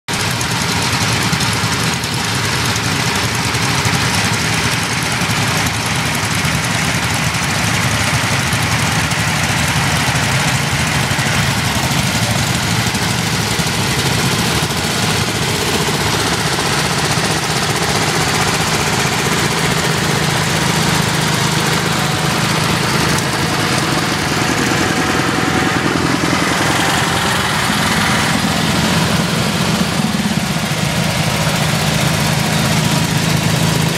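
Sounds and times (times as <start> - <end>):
small engines idling: 0.1 - 33.9.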